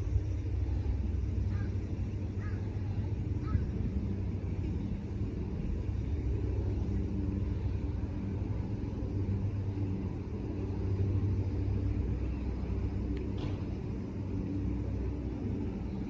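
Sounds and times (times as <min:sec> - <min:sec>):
low mechanical hum: 0:00.0 - 0:16.0
low rumble: 0:00.0 - 0:16.0.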